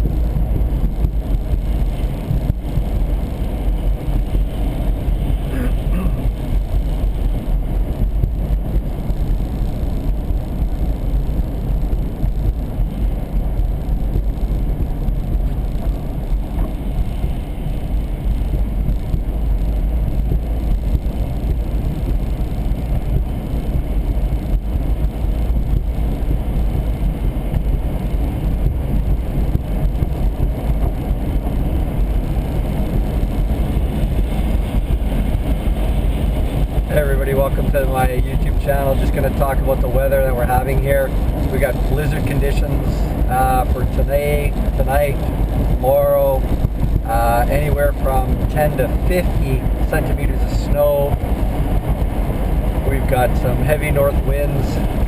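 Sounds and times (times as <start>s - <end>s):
car road noise inside cabin: 0.0s - 55.0s.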